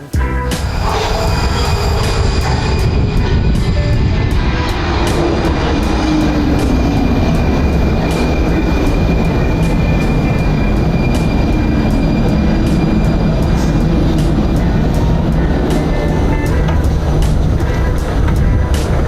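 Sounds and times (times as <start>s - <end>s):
metro train rumbling: 0.0s - 19.0s
sharp rail clicks: 0.0s - 19.0s.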